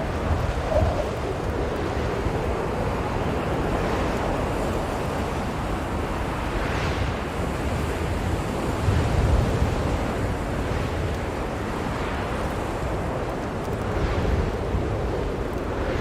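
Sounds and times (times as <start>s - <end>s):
blizzard wind rumbling: 0.0s - 16.0s.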